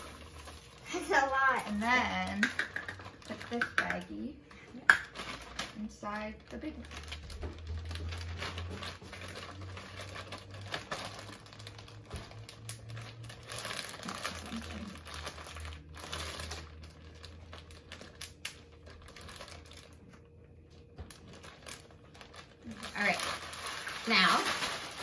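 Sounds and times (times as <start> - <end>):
low steady hum: 0.0 - 25.0
plastic bags crinkling: 0.0 - 25.0.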